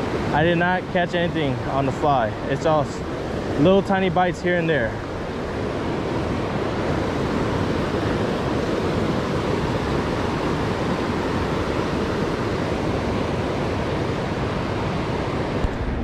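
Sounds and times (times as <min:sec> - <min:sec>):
river water rushing: 0:00.0 - 0:15.8.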